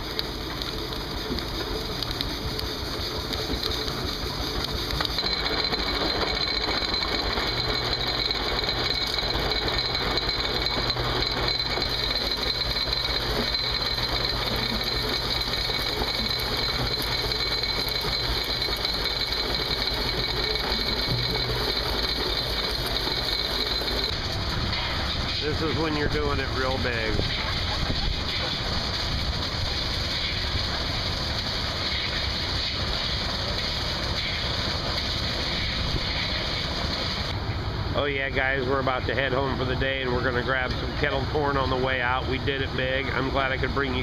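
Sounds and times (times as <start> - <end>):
engine-driven machinery running: 0.0 - 44.0
thin high whine: 0.0 - 44.0.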